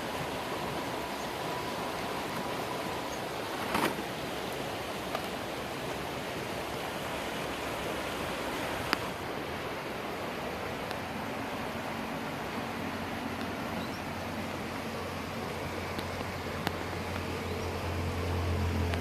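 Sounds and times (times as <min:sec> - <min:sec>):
creek rushing: 0:00.0 - 0:19.0.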